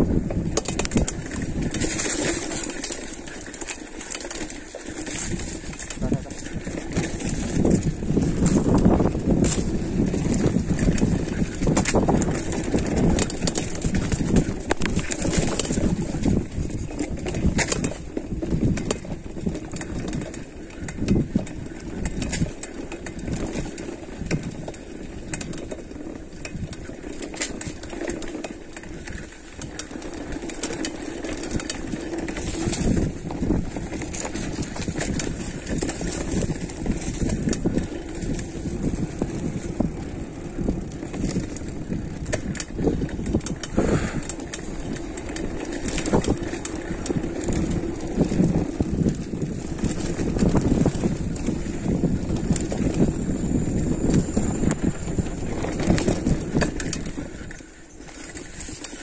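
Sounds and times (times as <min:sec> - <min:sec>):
bike rattling over bumps: 0:00.0 - 0:59.0
bike tyres on dirt: 0:00.0 - 0:59.0.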